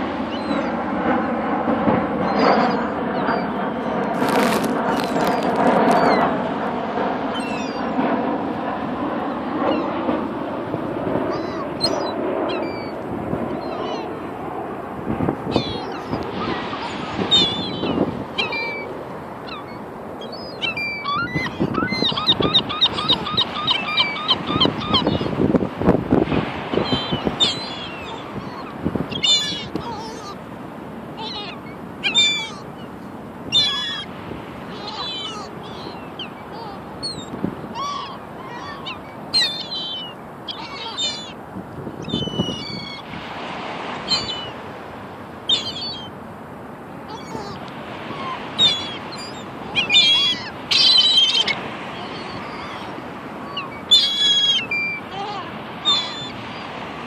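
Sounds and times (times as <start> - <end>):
gulls calling: 0.0 - 57.0.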